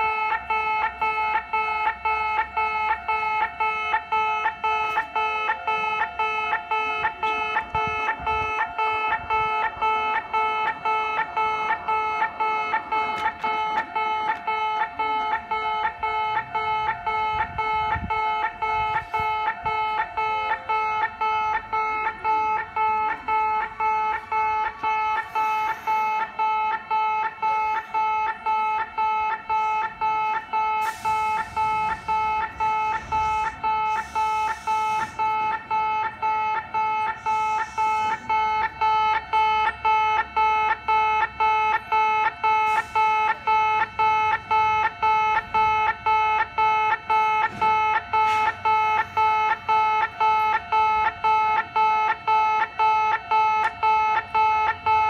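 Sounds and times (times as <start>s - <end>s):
level crossing alarm chime: 0.0s - 55.0s.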